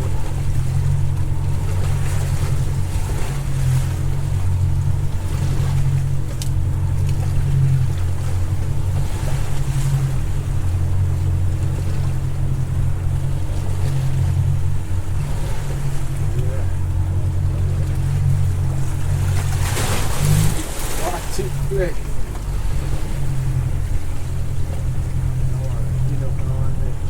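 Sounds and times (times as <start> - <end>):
boat motor running: 0.0 - 27.0
sloshing water: 0.0 - 27.0
wind: 0.0 - 27.0.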